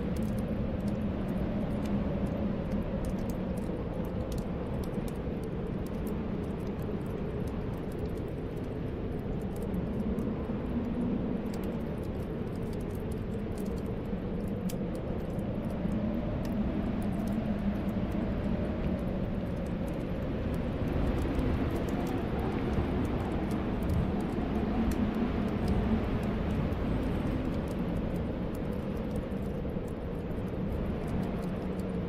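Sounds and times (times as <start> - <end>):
fireplace fire crackling: 0.0 - 32.0
snowstorm wind blowing: 0.0 - 32.0.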